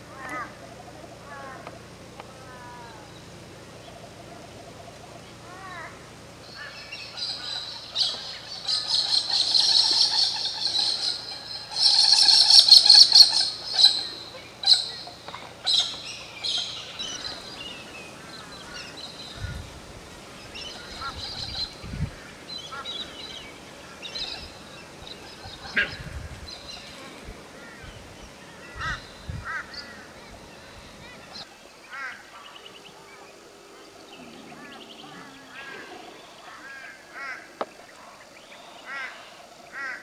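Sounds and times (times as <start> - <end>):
birds calling: 0.0 - 40.0.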